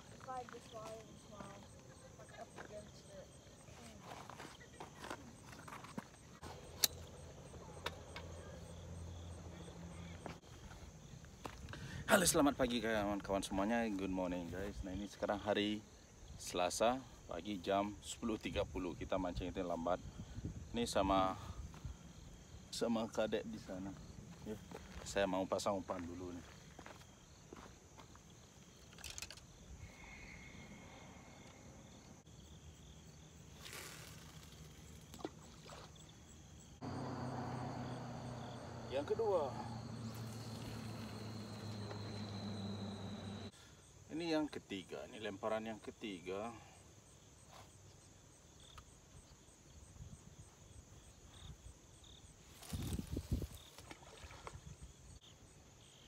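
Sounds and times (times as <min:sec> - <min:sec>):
crickets trilling: 0:00.0 - 0:56.0
insects chirring: 0:00.0 - 0:56.0.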